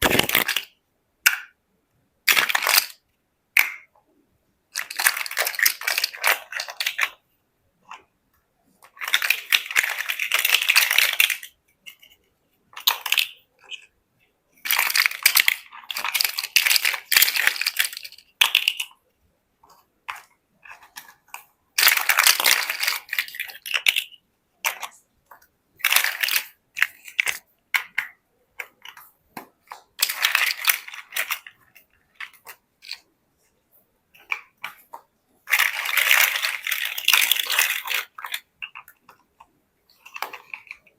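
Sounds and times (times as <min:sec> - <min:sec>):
plastic bricks clattering and clicking: 0:00.0 - 0:00.7, 0:02.3 - 0:03.0, 0:04.7 - 0:07.2, 0:08.8 - 0:12.2, 0:12.8 - 0:13.9, 0:14.6 - 0:18.9, 0:19.7 - 0:33.0, 0:34.2 - 0:40.9.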